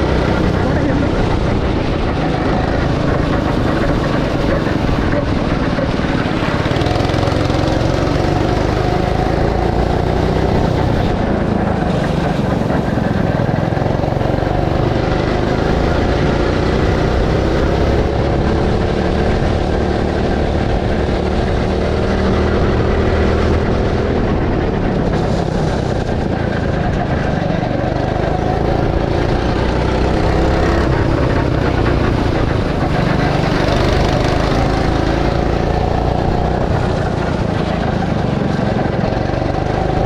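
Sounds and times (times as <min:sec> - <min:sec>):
go-kart engine revving: 0:00.0 - 0:40.0.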